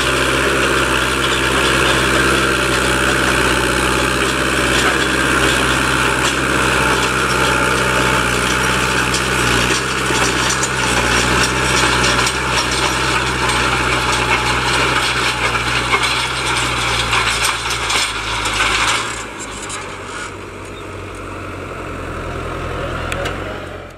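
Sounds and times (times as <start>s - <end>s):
implement clattering and scraping soil: 0.0s - 23.9s
tractor diesel engine under load: 0.0s - 23.9s.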